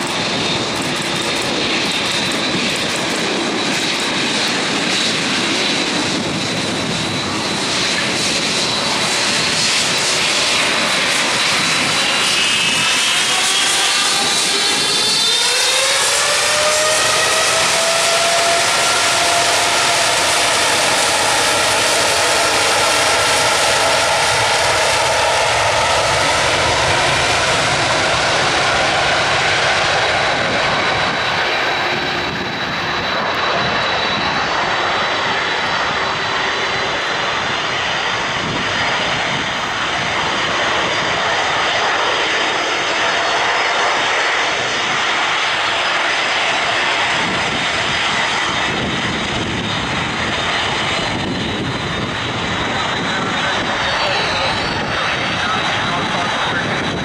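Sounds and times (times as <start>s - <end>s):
high jet engine whine: 0.0s - 57.0s
jet engine roar: 0.0s - 57.0s.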